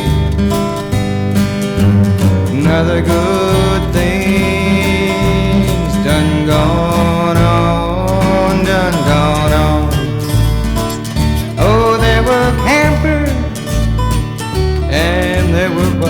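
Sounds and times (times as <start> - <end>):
country band music: 0.0 - 16.0.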